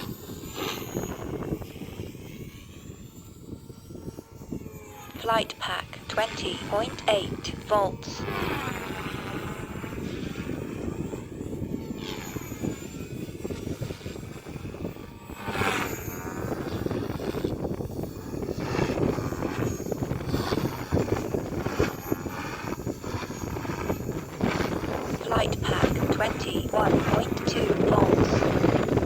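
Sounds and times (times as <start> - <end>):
wind on microphone: 0.0 - 5.2, 8.2 - 29.0
helicopter rotor and motor whine: 0.0 - 29.0.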